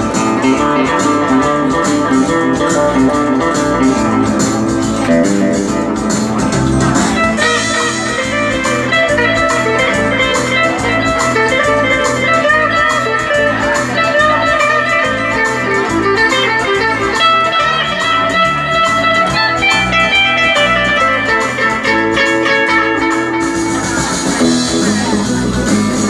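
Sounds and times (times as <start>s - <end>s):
guitar-led band music: 0.0s - 26.0s.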